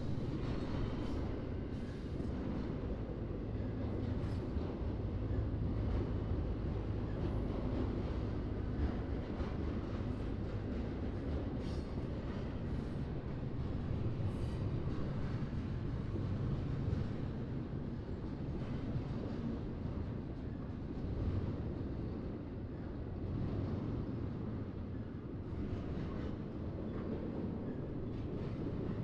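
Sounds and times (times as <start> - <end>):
freight train rumbling on rails: 0.0 - 29.0.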